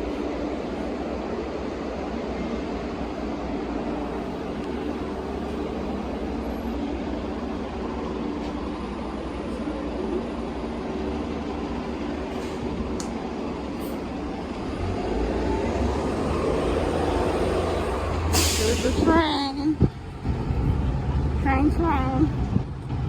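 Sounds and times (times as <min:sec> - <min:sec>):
train rumbling by: 0:00.0 - 0:23.0.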